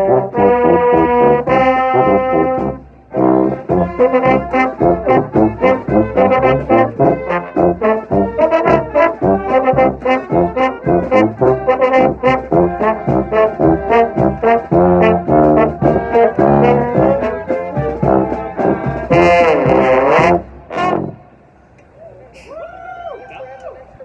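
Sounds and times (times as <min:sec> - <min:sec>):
brass band playing: 0:00.0 - 0:21.5.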